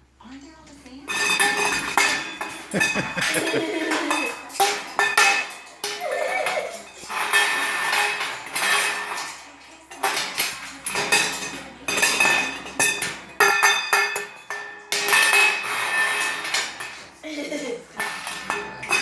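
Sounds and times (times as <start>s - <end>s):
metal bowls clanging: 1.1s - 19.0s.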